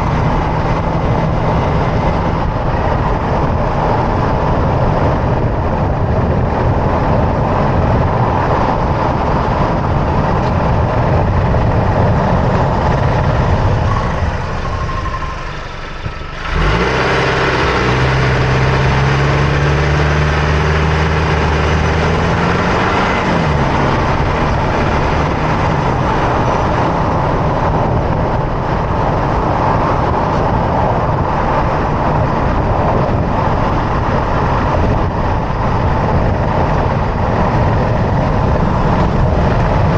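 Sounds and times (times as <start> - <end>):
road and tyre noise: 0.0 - 39.9
truck engine accelerating: 0.0 - 39.9.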